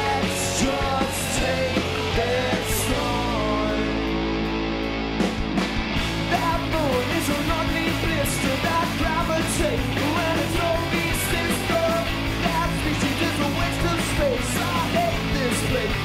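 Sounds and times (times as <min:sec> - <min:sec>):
voices singing: 0:00.0 - 0:04.2, 0:06.3 - 0:16.0
live rock band playing: 0:00.0 - 0:16.0.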